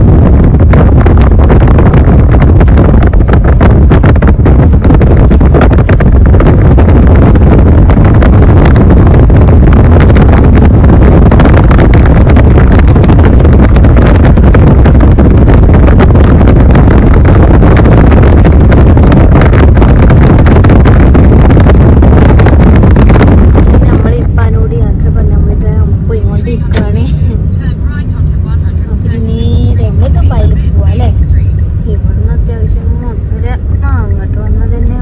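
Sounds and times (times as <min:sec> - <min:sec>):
road and wind noise in car: 0:00.0 - 0:35.0
wind buffeting microphone: 0:00.0 - 0:35.0.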